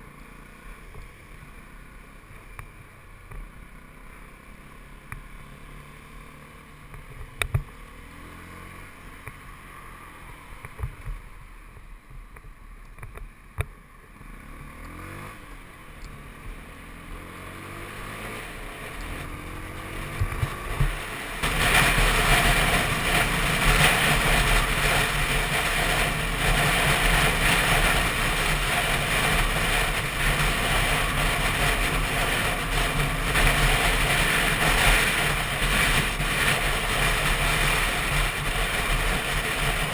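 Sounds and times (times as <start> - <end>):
motorcycle engine revving through gears: 0.0 - 11.3, 13.0 - 39.9.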